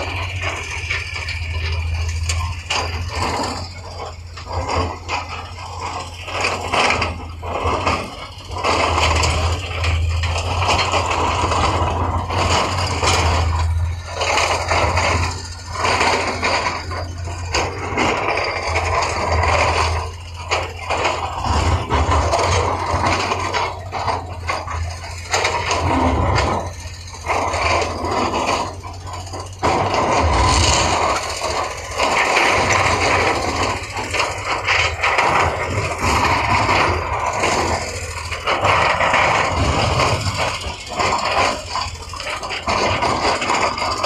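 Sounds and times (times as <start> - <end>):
diesel engine drone: 0.0 - 44.0.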